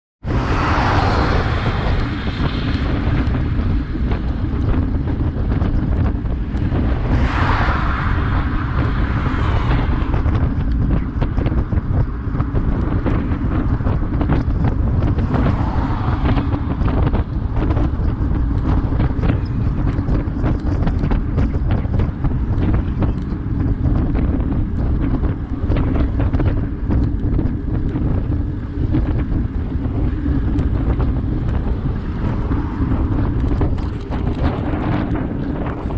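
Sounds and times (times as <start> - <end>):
wind buffeting microphone: 0.2 - 35.9.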